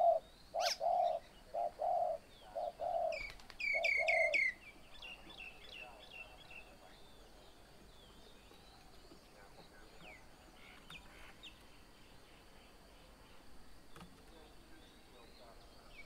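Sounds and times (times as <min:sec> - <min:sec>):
bird chirps: 0:00.0 - 0:16.0.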